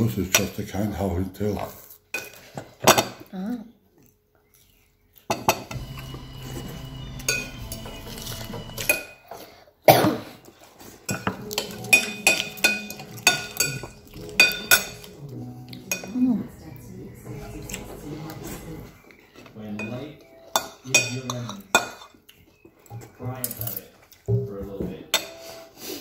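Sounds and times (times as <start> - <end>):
cutlery and dishes clinking: 0.2 - 0.7, 1.5 - 3.3, 5.2 - 9.4, 10.0 - 26.0.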